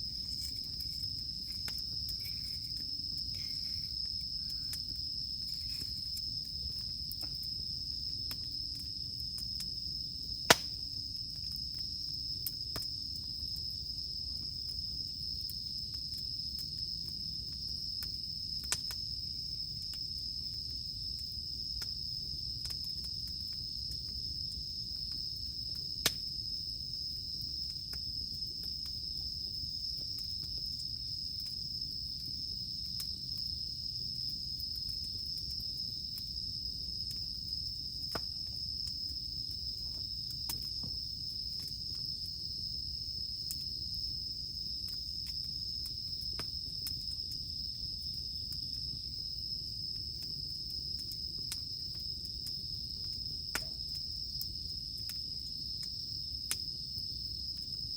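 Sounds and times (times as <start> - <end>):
campfire crackling and popping: 0.0 - 57.8
insects chirring: 0.0 - 57.9.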